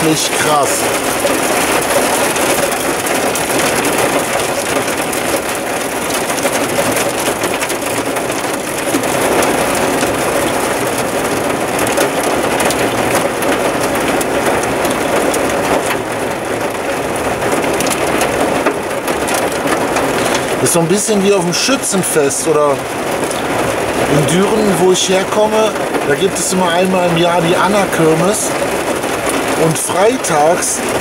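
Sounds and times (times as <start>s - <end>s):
heavy rain on vehicle roof: 0.0s - 31.0s.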